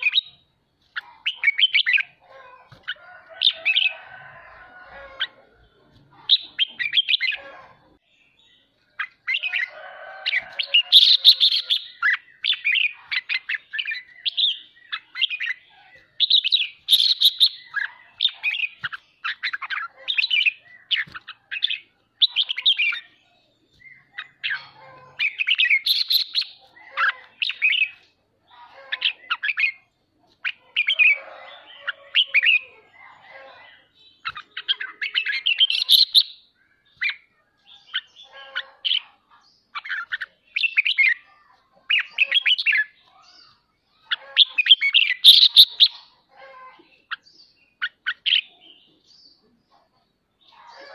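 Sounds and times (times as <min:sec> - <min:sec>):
bird chirping and chattering: 0:00.0 - 0:50.9.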